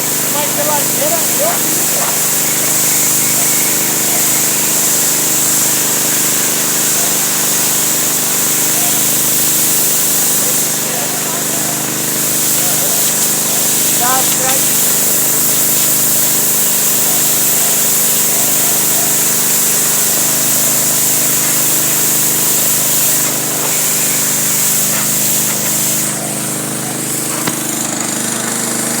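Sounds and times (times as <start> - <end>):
motor-driven machine humming: 0.0 - 29.0.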